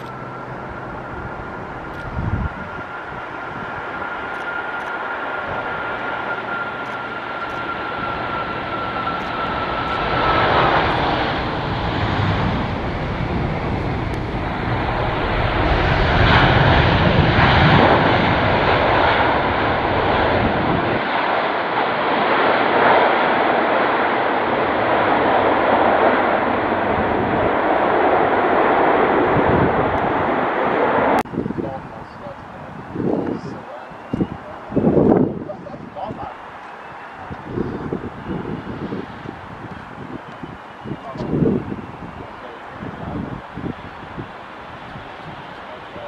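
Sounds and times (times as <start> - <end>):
jet engine roar: 0.0 - 46.0
jet engine whine: 0.0 - 46.0.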